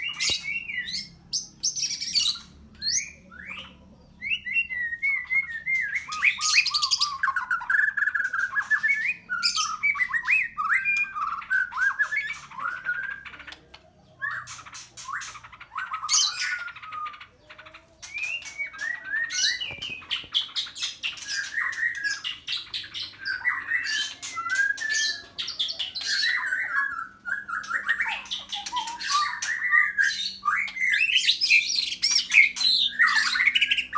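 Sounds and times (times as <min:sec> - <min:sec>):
songbird singing whistled phrases: 0:00.0 - 0:13.4, 0:14.2 - 0:33.9.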